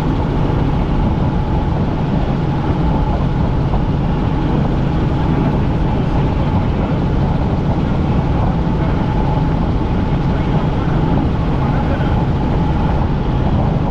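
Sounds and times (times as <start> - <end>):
helicopter engine and rotor drone: 0.0 - 13.9.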